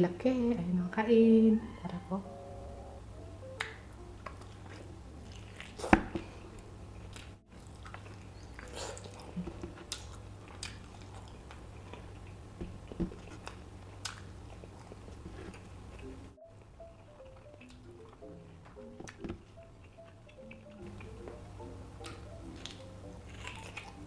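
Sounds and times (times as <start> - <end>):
biting and chewing meat: 4.2 - 24.0.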